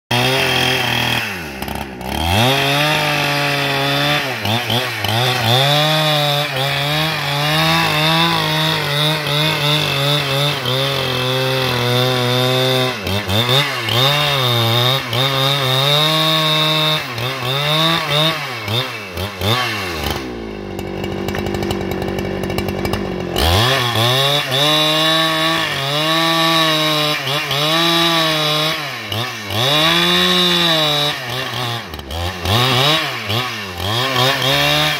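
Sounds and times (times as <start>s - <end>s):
chainsaw ripping a log: 0.1s - 34.9s.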